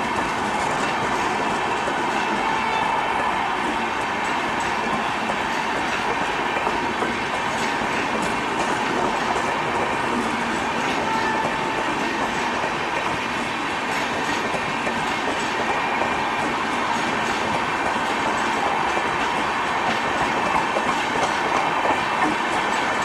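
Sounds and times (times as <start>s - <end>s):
train wheels rumbling on rail: 0.0s - 23.0s
wheels clacking over rail joints: 0.0s - 23.0s.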